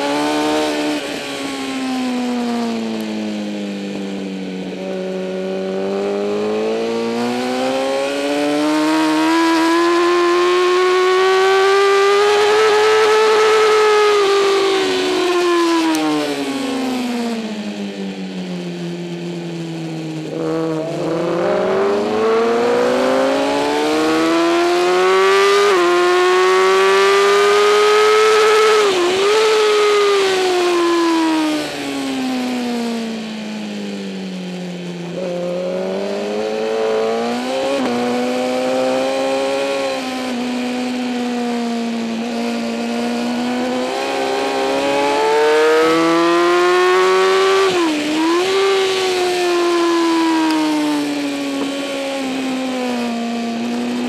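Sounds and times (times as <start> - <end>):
motorcycle engine racing: 0.0 - 54.0.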